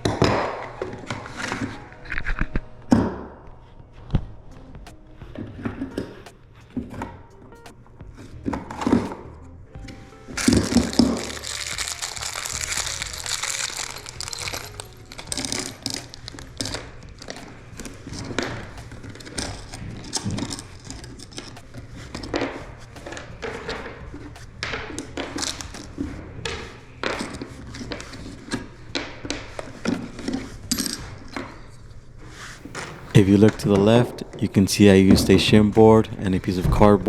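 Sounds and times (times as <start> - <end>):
faint background music: 0.0 - 37.0.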